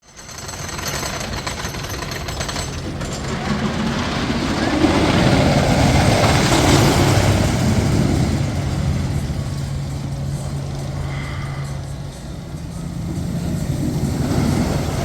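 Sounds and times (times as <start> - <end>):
roller coaster rattling on track: 0.0 - 15.0.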